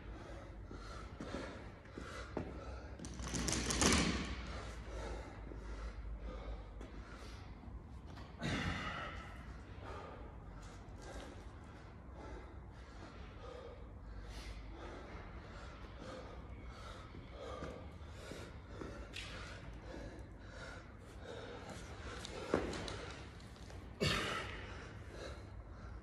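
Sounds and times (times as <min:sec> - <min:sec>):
man breathing hard: 0:00.0 - 0:26.0.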